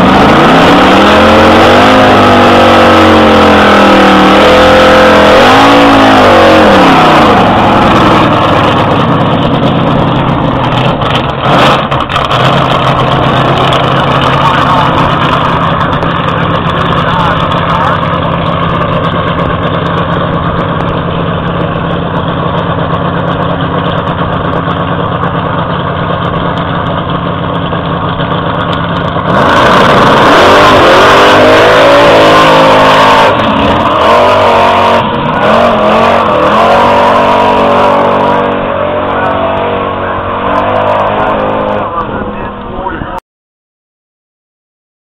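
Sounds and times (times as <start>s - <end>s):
drag car engine revving: 0.0s - 43.2s.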